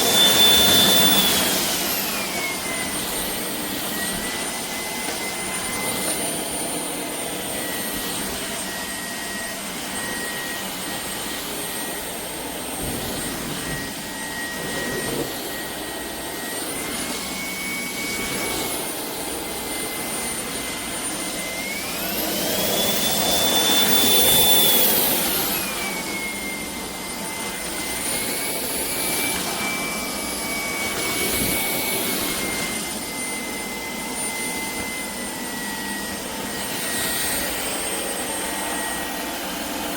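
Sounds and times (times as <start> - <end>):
stick vacuum motor whining: 0.0 - 39.9.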